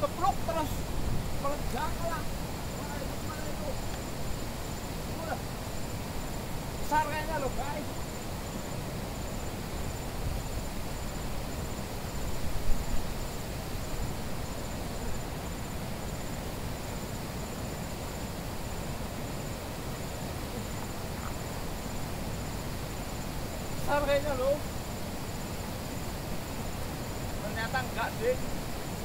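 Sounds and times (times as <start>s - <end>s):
insect trilling: 0.0s - 29.0s
river rushing over rocks: 0.0s - 29.0s.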